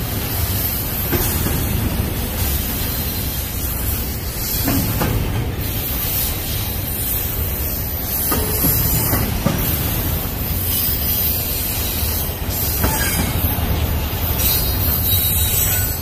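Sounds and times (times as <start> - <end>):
steel wheels rolling on rail: 0.0 - 16.0.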